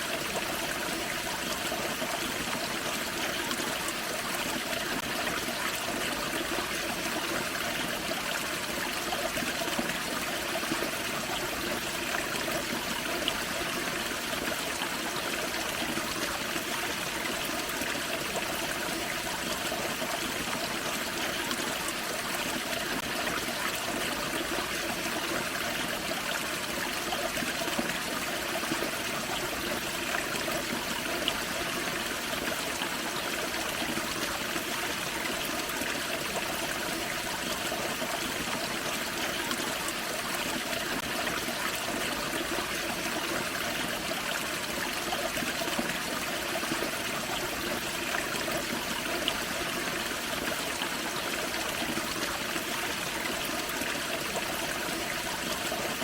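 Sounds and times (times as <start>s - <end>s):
small waterfall splashing: 0.0s - 56.0s.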